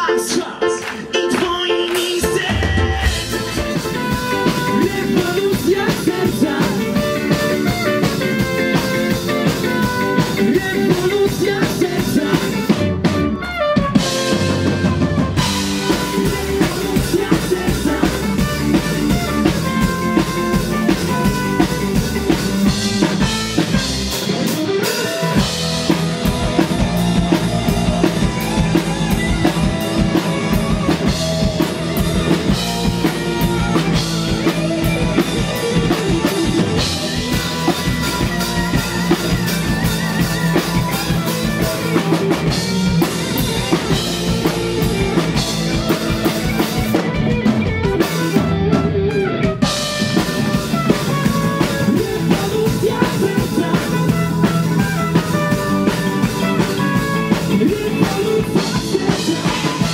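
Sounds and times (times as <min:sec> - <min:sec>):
rock band playing steady beat: 0:00.0 - 0:59.9.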